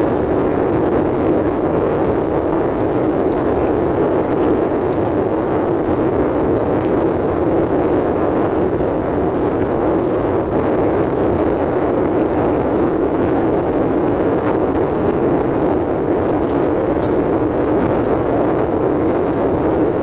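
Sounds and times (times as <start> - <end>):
rushing noise inside car: 0.0 - 20.0.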